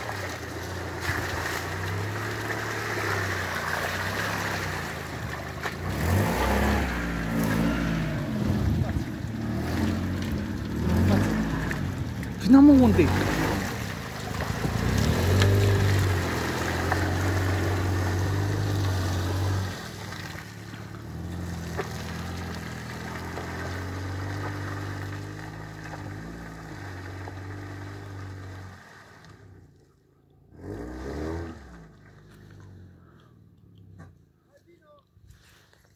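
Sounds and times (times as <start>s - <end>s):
vehicle engine driving through mud: 0.0s - 34.3s.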